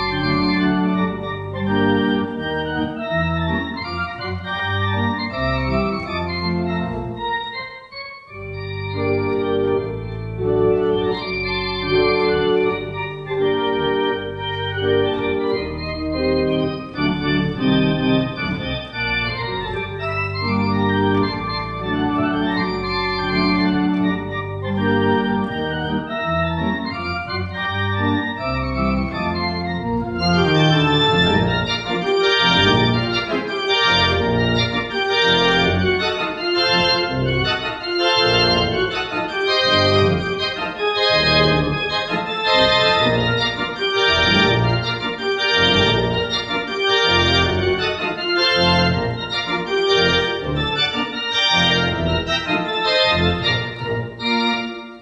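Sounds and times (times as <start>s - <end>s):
church organ playing ragtime: 0.0s - 55.0s.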